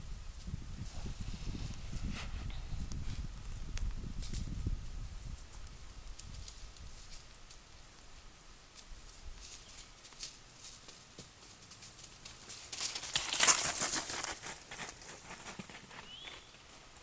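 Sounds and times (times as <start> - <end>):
goats running rustling: 0.7 - 17.0.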